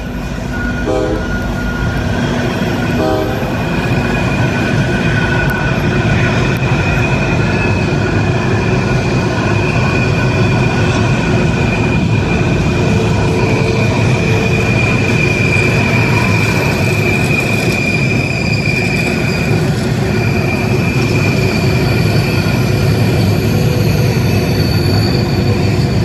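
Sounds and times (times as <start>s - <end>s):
high wheel squeal: 0.0s - 26.0s
train wheels rumbling on rail: 0.0s - 26.0s.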